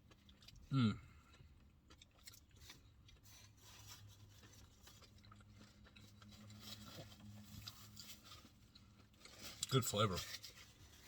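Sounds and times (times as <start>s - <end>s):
rustling while eating: 0.0s - 11.0s.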